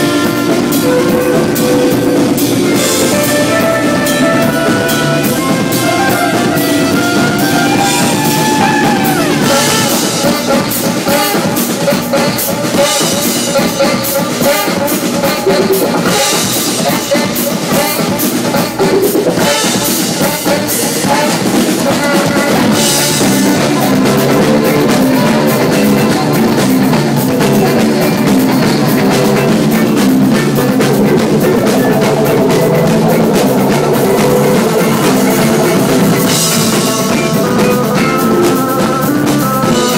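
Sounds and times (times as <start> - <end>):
drum kit: 0.0 - 39.9
electric guitar: 0.0 - 39.9
saxophone: 0.0 - 39.9.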